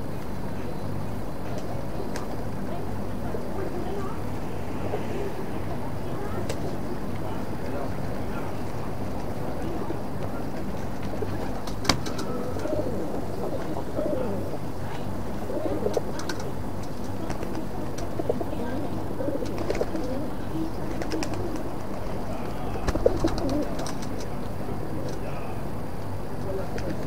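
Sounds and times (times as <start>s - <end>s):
pigeons cooing: 1.9s - 24.4s.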